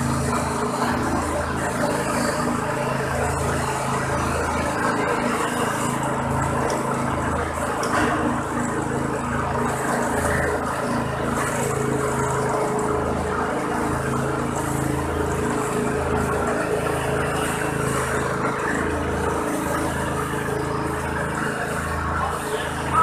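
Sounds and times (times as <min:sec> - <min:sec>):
waste shredder motor humming: 0:00.0 - 0:23.0.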